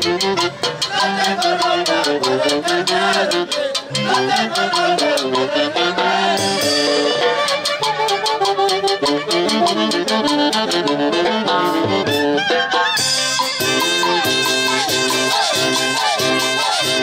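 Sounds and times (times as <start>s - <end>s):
andean folk instrumental music: 0.0s - 17.0s.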